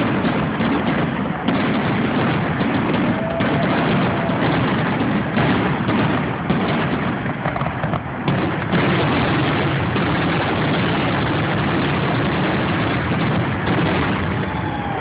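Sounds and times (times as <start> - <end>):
fireworks exploding: 0.0 - 15.0.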